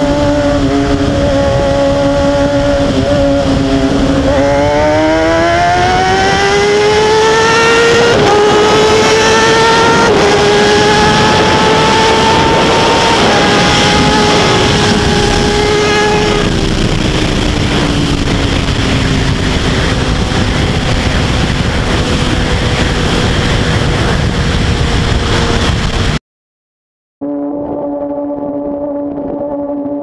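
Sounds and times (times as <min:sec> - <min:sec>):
motorcycle engine revving: 0:00.0 - 0:26.2
wind rush on microphone: 0:00.0 - 0:26.2, 0:27.3 - 0:30.0.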